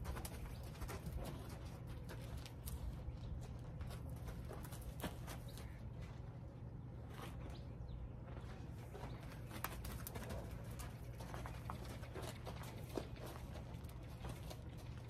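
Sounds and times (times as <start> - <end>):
horse hooves in sand: 0.0 - 15.0
low background rumble: 0.0 - 15.0.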